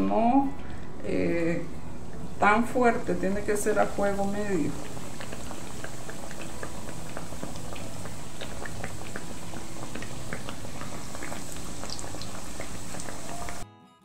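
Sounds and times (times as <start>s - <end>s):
dough sizzling in hot oil: 1.0s - 13.6s.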